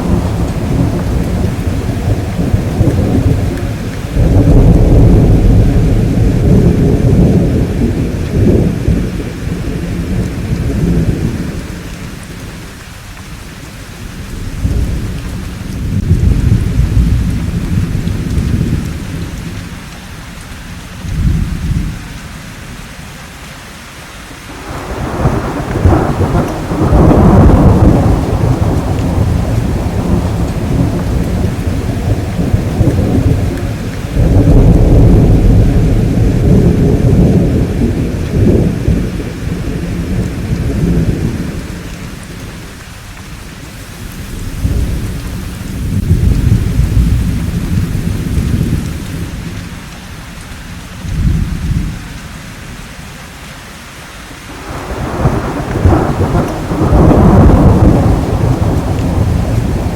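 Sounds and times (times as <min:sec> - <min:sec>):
deep rolls of thunder: 0:00.0 - 0:12.5, 0:14.2 - 0:19.7, 0:24.5 - 0:42.8, 0:44.0 - 0:49.8, 0:51.0 - 0:52.1, 0:54.5 - 0:59.9
steady rainfall: 0:00.0 - 0:59.9.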